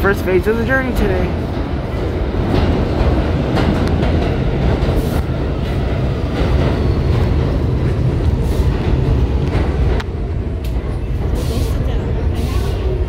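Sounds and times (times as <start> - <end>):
subway train rumbling past: 0.0 - 13.0.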